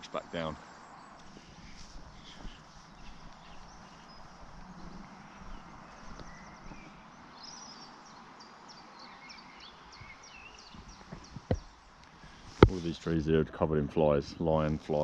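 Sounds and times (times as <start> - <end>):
faint outdoor background hiss: 0.0 - 15.0
small birds chirping: 0.0 - 15.0.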